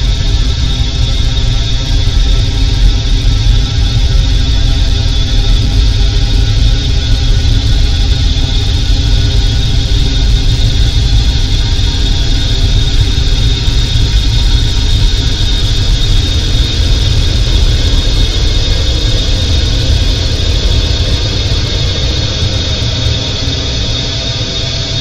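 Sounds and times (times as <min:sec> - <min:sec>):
ambient drone music: 0:00.0 - 0:25.0.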